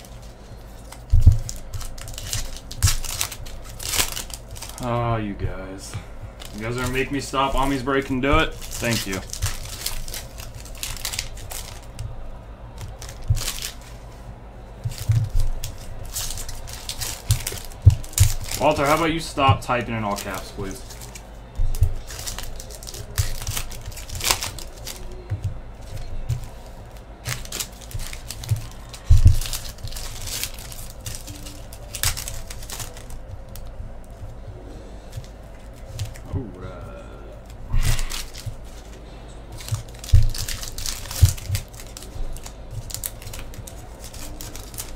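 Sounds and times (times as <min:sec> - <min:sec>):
card pack wrappers crinkling: 0:00.0 - 0:14.2, 0:14.8 - 0:34.4, 0:35.1 - 0:36.3, 0:37.4 - 0:44.9.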